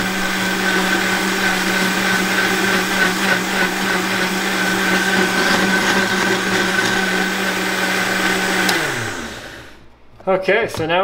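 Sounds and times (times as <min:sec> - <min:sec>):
blender motor whining: 0:00.0 - 0:09.9.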